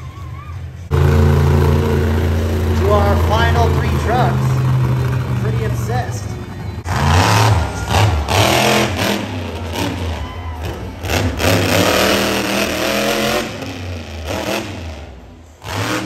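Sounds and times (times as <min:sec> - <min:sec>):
truck engine revving hard: 0:00.8 - 0:16.0.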